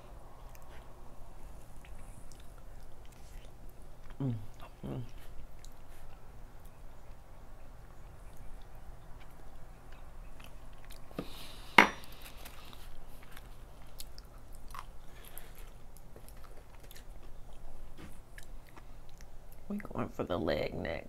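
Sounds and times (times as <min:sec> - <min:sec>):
person chewing food: 0:00.3 - 0:19.7.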